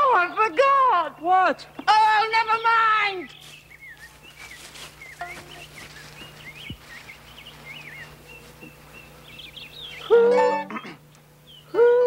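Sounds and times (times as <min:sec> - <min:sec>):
birds chirping and twittering: 0:00.0 - 0:11.8
faint steady hum: 0:00.0 - 0:12.0.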